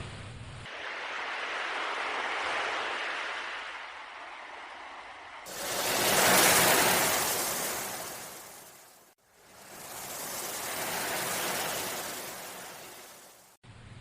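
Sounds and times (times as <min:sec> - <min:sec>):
sea waves washing in: 0:00.7 - 0:13.6.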